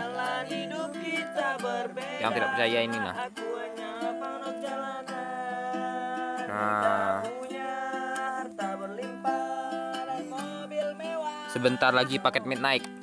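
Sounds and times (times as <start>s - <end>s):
plucked string instrument music: 0.0s - 13.0s.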